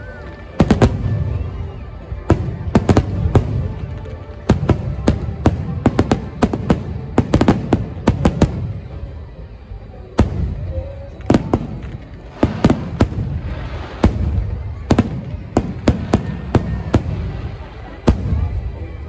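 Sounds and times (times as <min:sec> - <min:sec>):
fireworks bangs: 0:00.3 - 0:08.9, 0:10.1 - 0:19.0.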